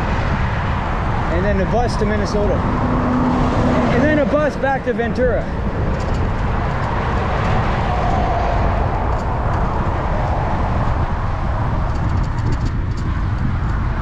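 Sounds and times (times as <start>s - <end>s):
traffic passing: 0.0s - 14.0s
wind buffeting microphone: 0.0s - 14.0s.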